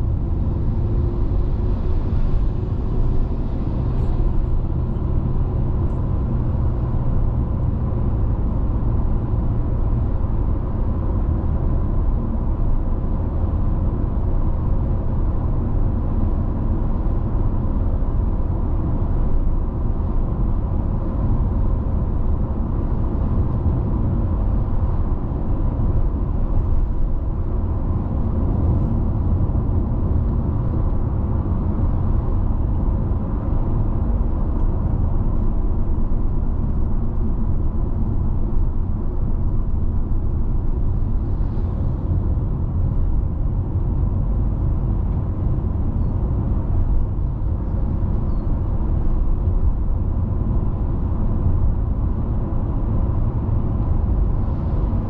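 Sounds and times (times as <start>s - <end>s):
car tyres and engine rumbling: 0.0s - 55.0s.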